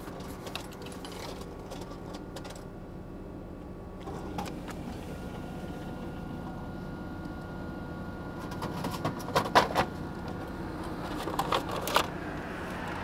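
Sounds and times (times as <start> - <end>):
vending machine humming: 0.0 - 13.0.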